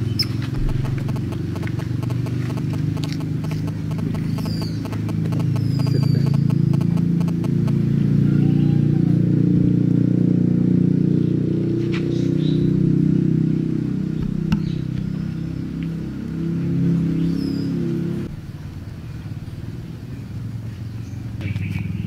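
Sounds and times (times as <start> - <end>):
motor running with low drone: 0.0 - 22.0.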